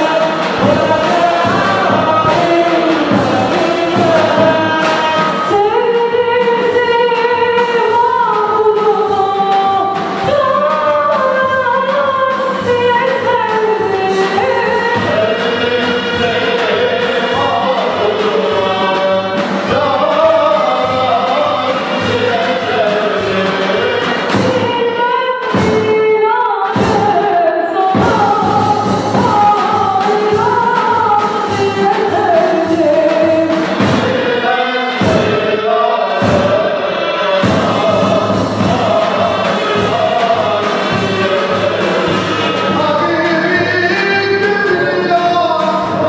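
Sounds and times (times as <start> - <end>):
steady drum beat: 0.0 - 46.0
voices singing a melody: 0.0 - 46.0.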